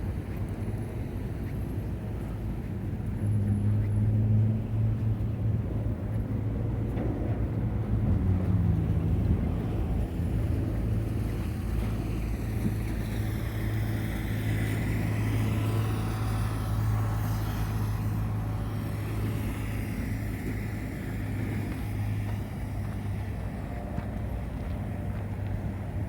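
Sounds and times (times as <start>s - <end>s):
vehicles passing: 2.1s - 26.0s.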